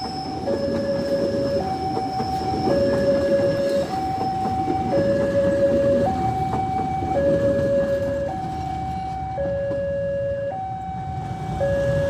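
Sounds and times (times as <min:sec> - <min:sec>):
two-tone warning siren: 0:00.0 - 0:12.0.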